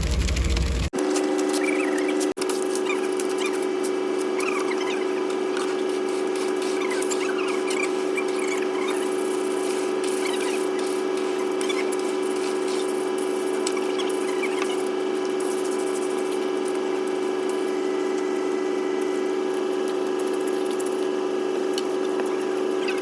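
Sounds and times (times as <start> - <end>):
machine motor humming: 0.0 - 23.0.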